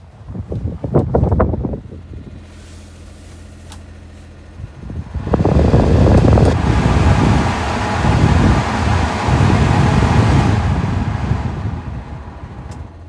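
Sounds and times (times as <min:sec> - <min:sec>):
heater blower fan rushing air: 0:00.0 - 0:13.0
low steady hum: 0:00.0 - 0:13.0.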